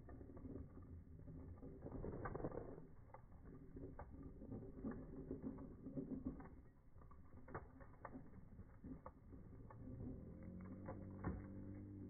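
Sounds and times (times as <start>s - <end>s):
small bicycle clicking and ticking: 0.0s - 12.0s.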